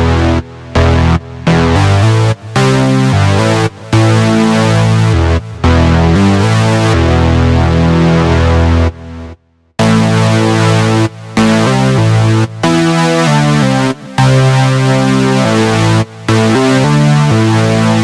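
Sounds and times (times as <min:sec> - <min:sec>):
synthesizer keyboard chords: 0:00.0 - 0:18.0.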